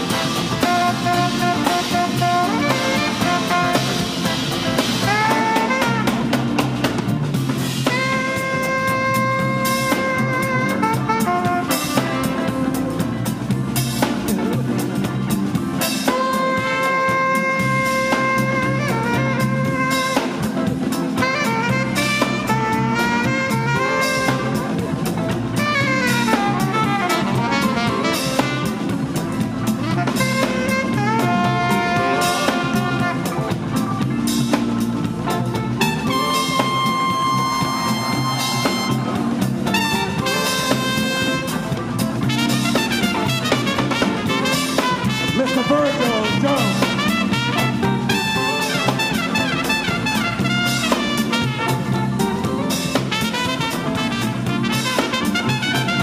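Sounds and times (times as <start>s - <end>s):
drum kit: 0.0s - 56.0s
electric bass: 0.0s - 56.0s
electric guitar: 0.0s - 56.0s
trumpet and saxophone: 0.0s - 56.0s.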